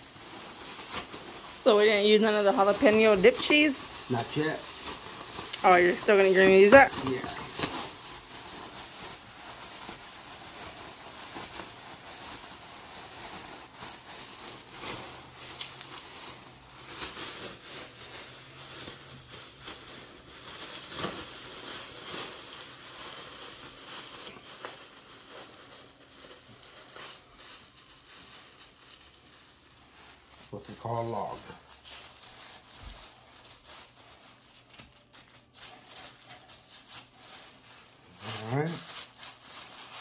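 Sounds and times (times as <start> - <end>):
plastic bag crinkling: 0.0 - 40.0.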